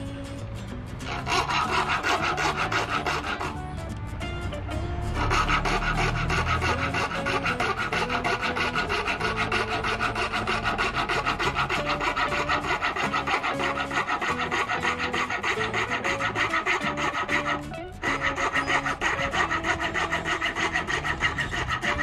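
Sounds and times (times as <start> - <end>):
hand saw rasping through fibreglass: 1.0 - 4.0, 5.1 - 22.0.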